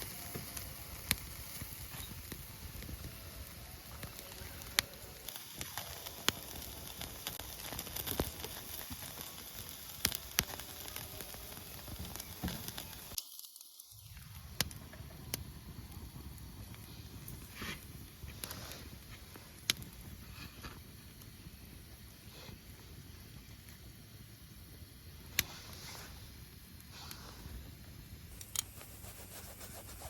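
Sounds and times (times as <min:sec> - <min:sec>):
campfire crackling and popping: 0:00.0 - 0:29.2.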